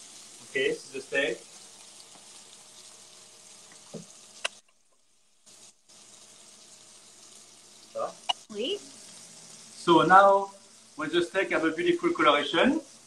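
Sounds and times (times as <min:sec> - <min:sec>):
steaks sizzling in frying pans: 0:00.0 - 0:13.0.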